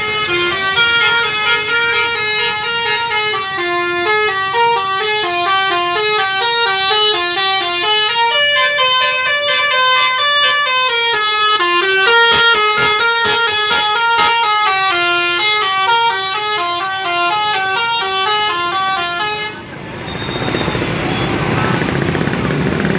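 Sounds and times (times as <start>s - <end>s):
musical air horn tune: 0.0s - 19.6s.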